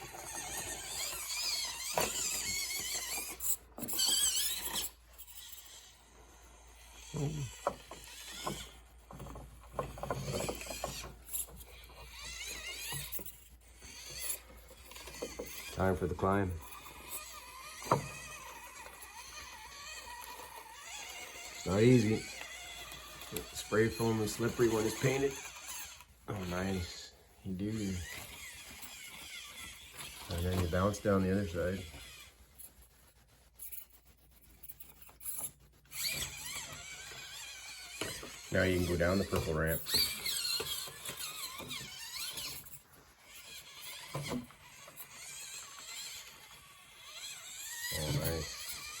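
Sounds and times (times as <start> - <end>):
small electric motor whining: 0.0 - 49.0
toy truck scraping over rocks: 0.0 - 49.0.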